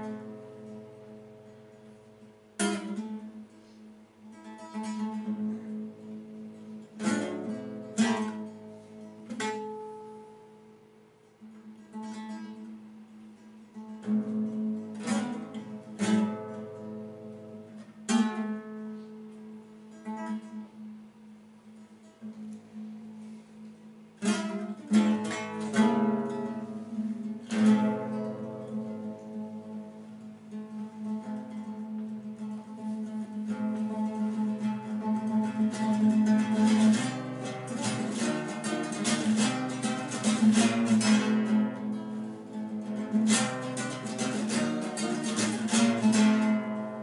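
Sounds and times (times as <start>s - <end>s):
nylon-string guitar chords: 0.0s - 47.0s.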